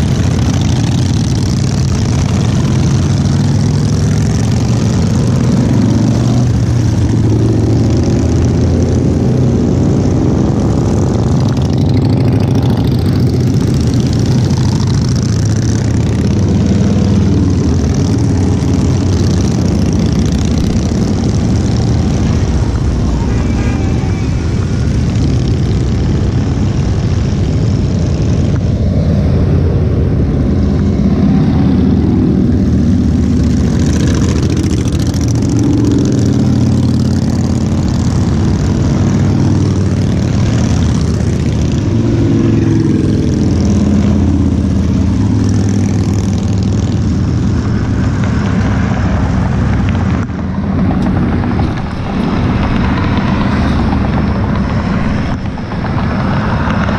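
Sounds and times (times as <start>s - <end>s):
motorcycles riding past: 0.0s - 56.9s.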